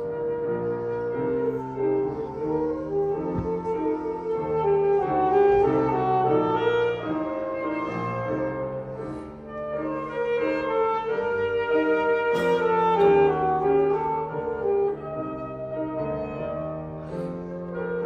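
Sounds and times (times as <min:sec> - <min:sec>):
piano accompaniment: 0:00.0 - 0:18.0
saxophone melody: 0:00.0 - 0:18.0.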